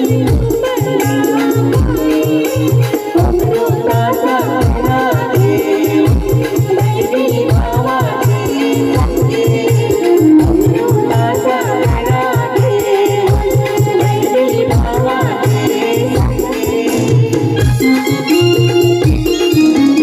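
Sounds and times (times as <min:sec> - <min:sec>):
person singing: 0:00.0 - 0:19.1
drum beat: 0:00.0 - 0:20.0
keyboard melody: 0:00.0 - 0:20.0.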